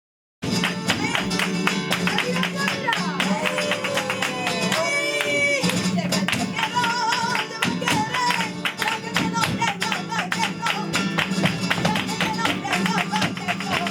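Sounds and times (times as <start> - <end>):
person singing: 0.9 - 11.1, 11.7 - 13.9.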